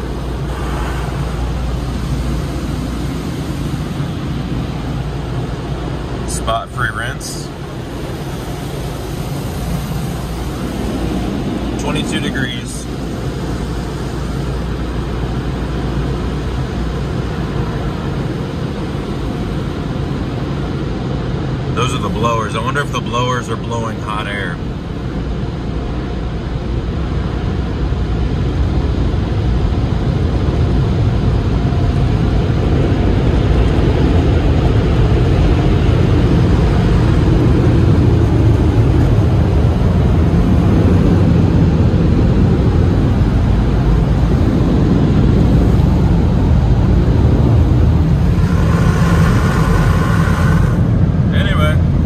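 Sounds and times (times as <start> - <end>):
car wash blower dryers running: 0.0 - 52.0.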